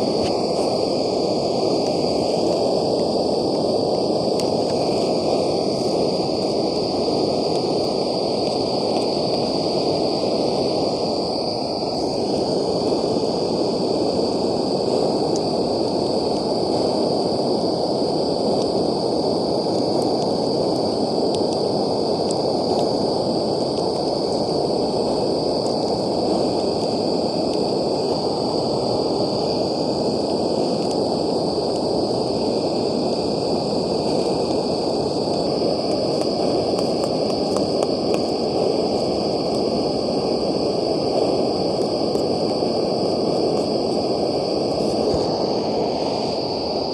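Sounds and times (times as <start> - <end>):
gas stove burner roaring: 0.0 - 46.9.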